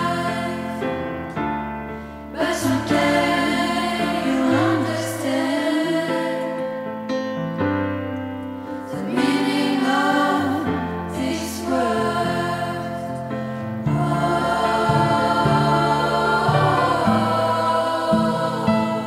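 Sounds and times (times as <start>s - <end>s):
choir singing: 0.0s - 1.4s, 2.3s - 6.8s, 8.8s - 19.0s
piano: 0.0s - 19.0s.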